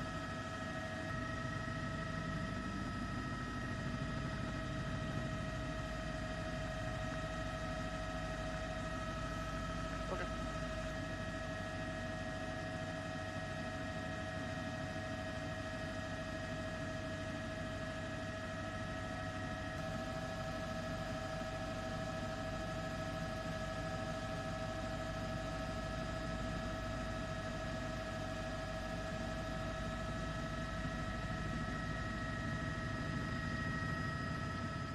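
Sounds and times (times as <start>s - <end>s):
helicopter engine drone and whine: 0.0s - 34.9s.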